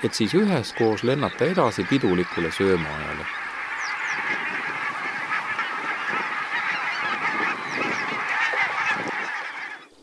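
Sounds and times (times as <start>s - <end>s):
flock of geese honking: 0.0s - 10.0s.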